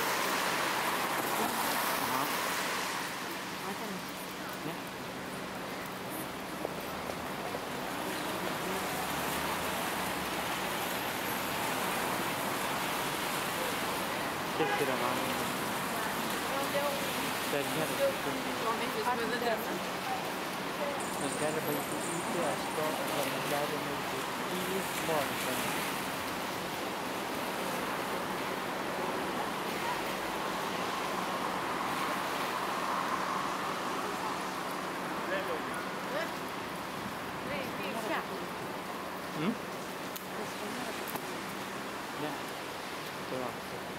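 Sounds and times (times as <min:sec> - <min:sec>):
traffic on a wet road: 0:00.0 - 0:43.9.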